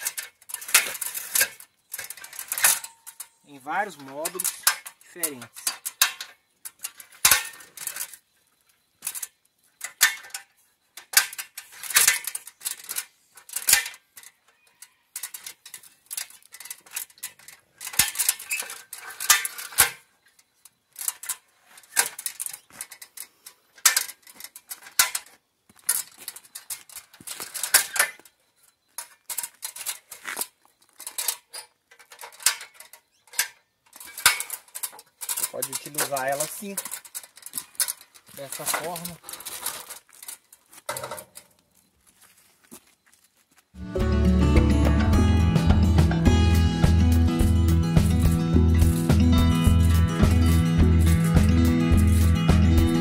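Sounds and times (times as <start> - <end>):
metal ladder clanking: 0.0 - 8.2, 9.0 - 41.6, 46.8 - 53.0.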